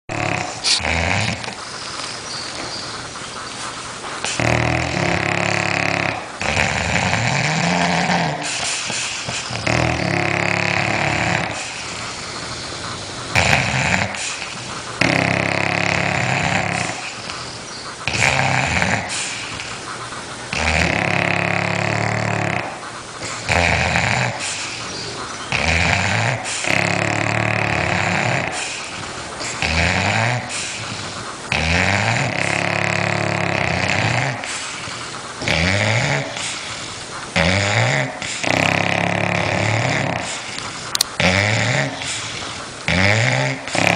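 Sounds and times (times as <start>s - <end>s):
loud rasping snore: 0.1s - 1.7s, 4.2s - 43.9s
quiet breaths: 0.1s - 43.9s.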